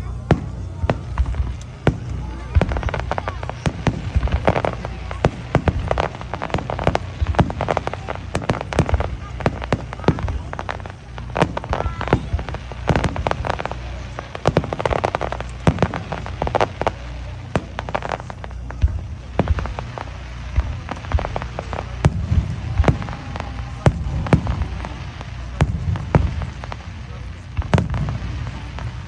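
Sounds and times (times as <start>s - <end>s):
firework bursts: 0.0s - 29.0s
low rumble: 0.0s - 29.0s.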